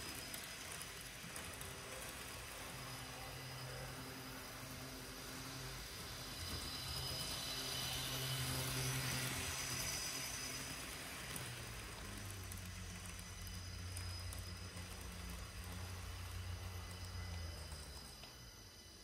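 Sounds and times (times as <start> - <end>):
model train running sounds: 0.0 - 19.0.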